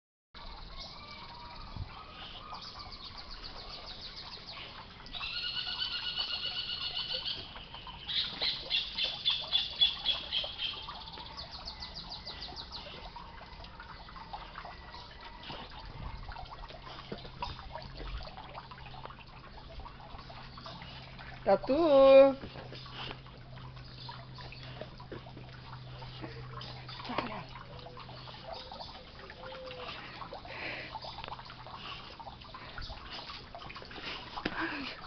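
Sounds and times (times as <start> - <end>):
birds chirping: 0.4 - 35.0.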